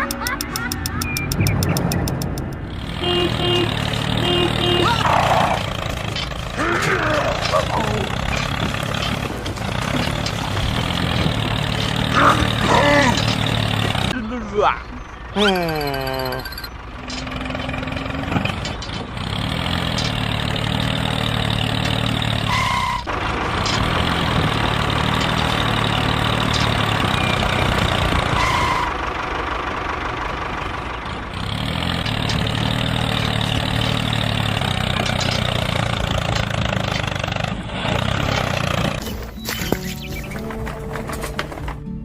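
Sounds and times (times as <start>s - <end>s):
tractor engine running under load: 0.0s - 14.2s, 16.5s - 42.0s.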